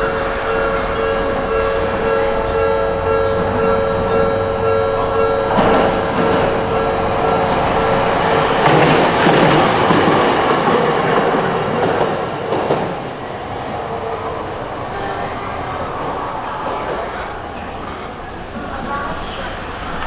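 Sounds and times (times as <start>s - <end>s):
streetcar wheels clattering on rails: 0.0s - 20.0s.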